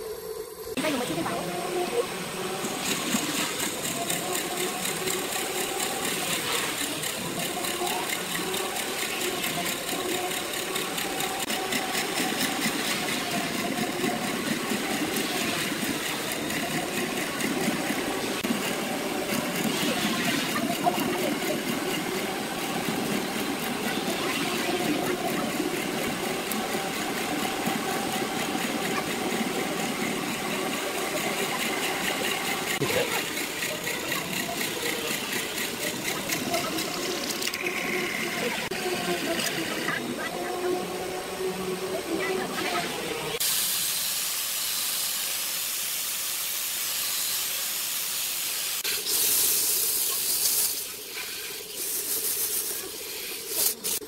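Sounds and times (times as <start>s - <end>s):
lathe motor drone: 0.0s - 43.4s.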